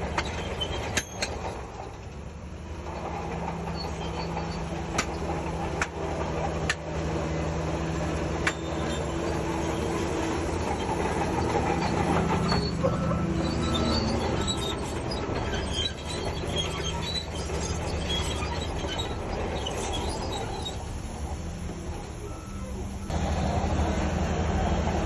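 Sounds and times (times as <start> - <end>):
bulldozer diesel engine running: 0.0 - 25.0
steel tracks squeaking: 0.0 - 25.0.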